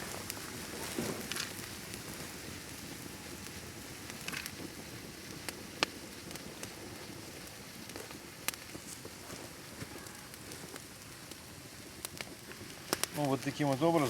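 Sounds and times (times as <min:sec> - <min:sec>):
bonfire crackling: 0:00.0 - 0:14.0
fire popping: 0:00.0 - 0:14.0.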